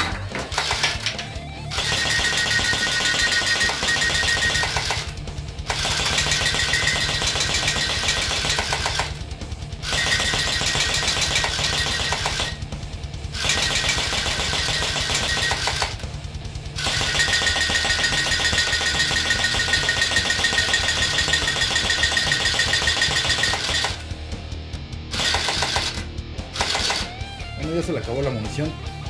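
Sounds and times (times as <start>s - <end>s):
toy blaster rapid clicking shots: 0.6s - 9.2s, 9.8s - 12.6s, 13.4s - 16.0s, 16.8s - 24.0s, 25.1s - 27.2s.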